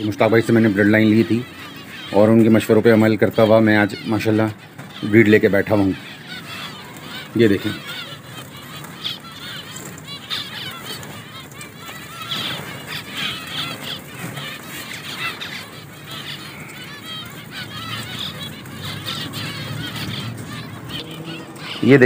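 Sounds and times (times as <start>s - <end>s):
finches chirping: 0.0s - 22.0s.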